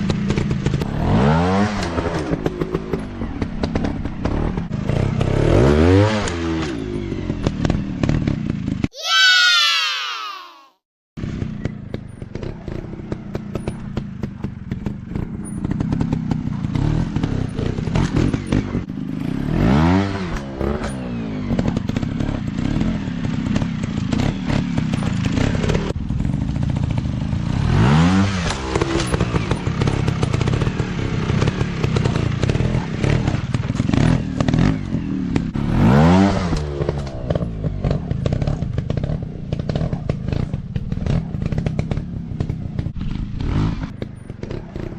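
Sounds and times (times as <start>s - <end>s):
dirt bike engine revving: 0.3s - 8.8s, 14.8s - 44.9s.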